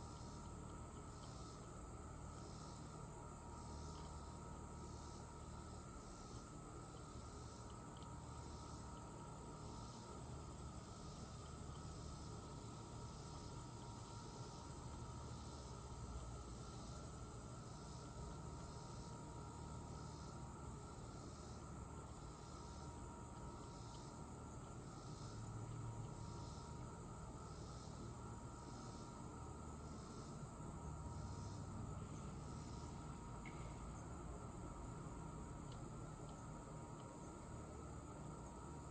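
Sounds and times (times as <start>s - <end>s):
insect high-pitched trill: 0.0s - 38.9s
pulsing insect chorus: 0.0s - 38.9s.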